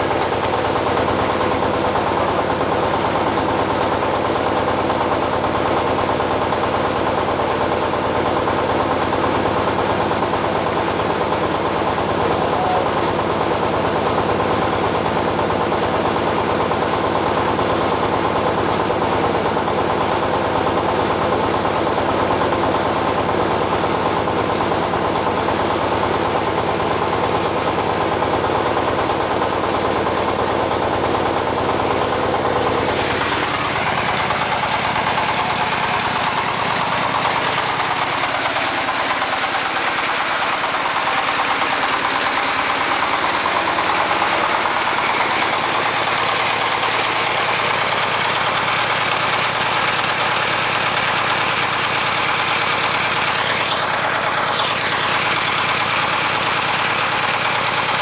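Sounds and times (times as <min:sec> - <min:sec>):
diesel generator running: 0:00.0 - 0:58.0.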